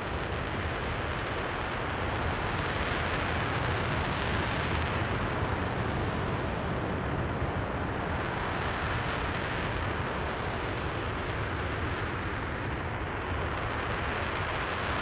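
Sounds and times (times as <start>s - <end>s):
rocket engine roaring: 0.0s - 15.0s.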